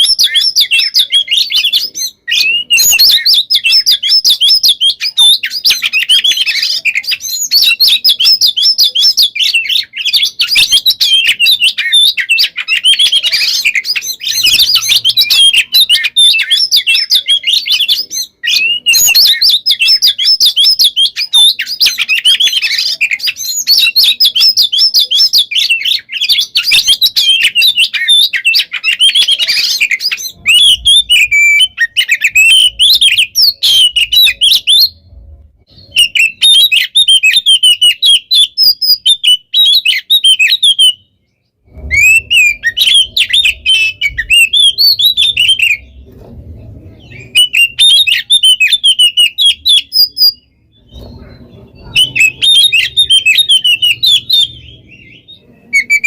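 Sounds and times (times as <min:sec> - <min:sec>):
magpie-robin singing: 0:00.0 - 0:56.0.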